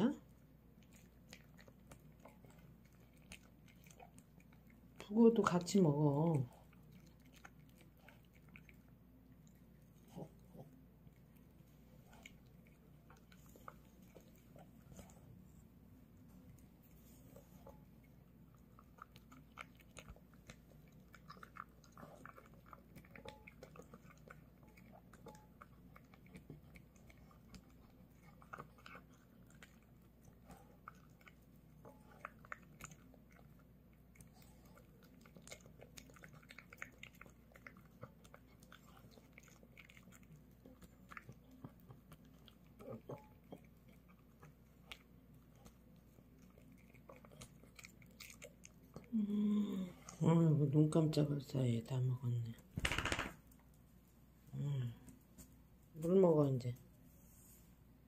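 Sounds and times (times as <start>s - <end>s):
dog chewing and crunching food: 0.0s - 49.2s.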